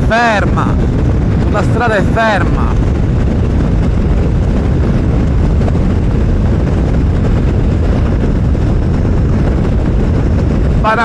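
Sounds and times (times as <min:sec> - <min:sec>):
motorcycle engine drone: 0:00.0 - 0:11.0
wind and road rush: 0:00.0 - 0:11.0.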